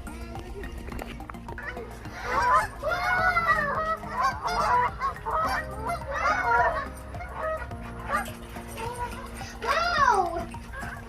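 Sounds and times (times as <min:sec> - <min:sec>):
geese honking: 0:01.5 - 0:11.0.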